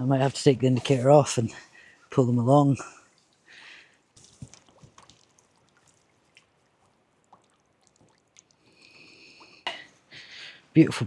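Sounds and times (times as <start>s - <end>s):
water dripping and splashing: 0.8s - 9.8s.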